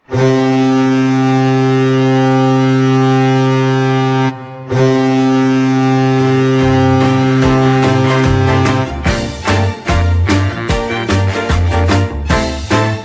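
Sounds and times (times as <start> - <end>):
hockey goal horn blasts: 0.0 - 13.0.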